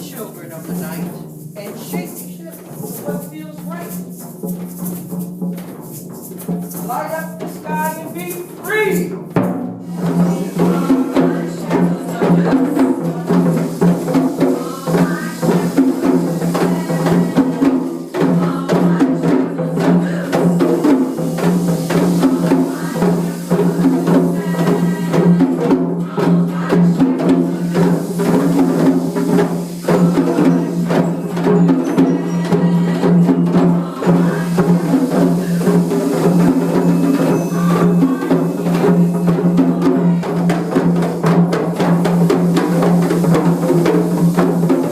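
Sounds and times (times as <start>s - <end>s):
many drums playing rhythm: 0.0s - 44.9s.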